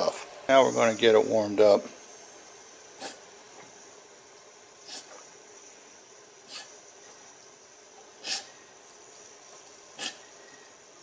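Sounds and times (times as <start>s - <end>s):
faint steam hiss: 0.0s - 11.0s.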